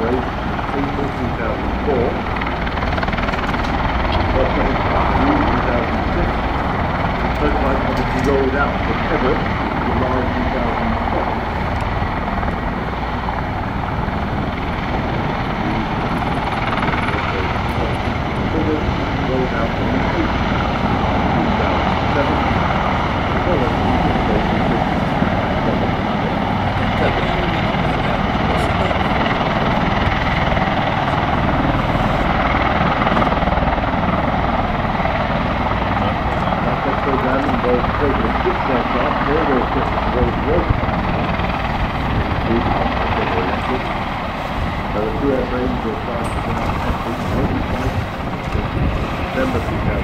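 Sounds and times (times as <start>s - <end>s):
jet airliner flying past: 0.0s - 50.0s.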